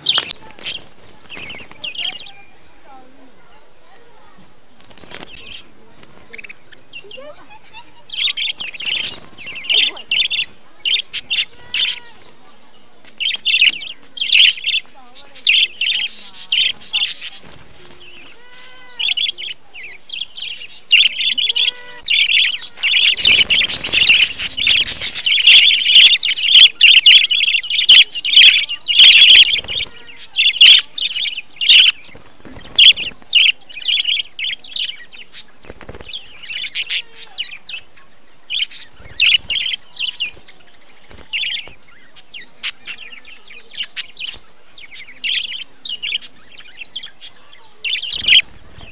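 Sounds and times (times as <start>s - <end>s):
budgerigars chirping: 0.0s - 48.9s.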